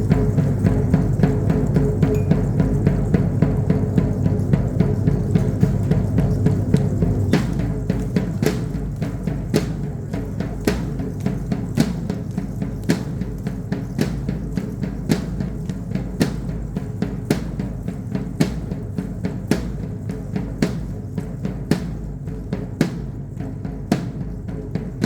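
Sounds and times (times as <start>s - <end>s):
steady low drum beat: 0.0s - 25.0s.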